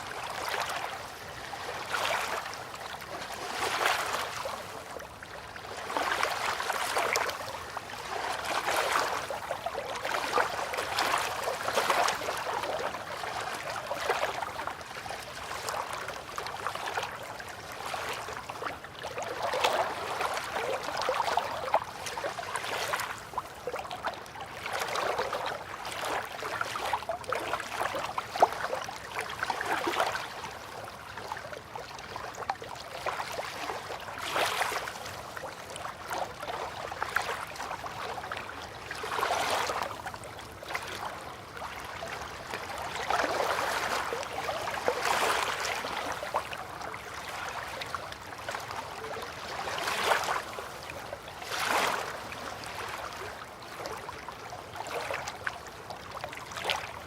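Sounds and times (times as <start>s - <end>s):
river water lapping at bank: 0.0s - 57.0s.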